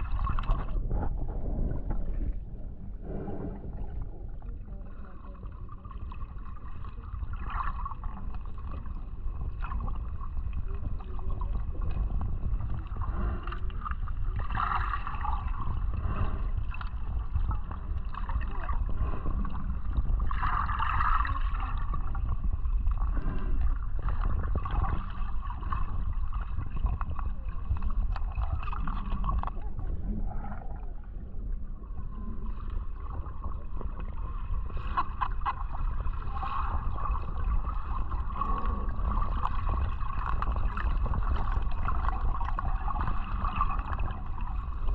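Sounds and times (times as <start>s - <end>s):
underwater rumble of moving water: 0.0s - 44.9s
water sloshing: 0.0s - 44.9s.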